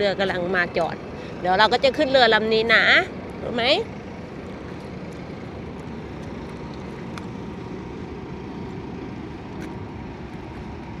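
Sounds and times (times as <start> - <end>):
ferry engines rumbling: 0.0 - 11.0.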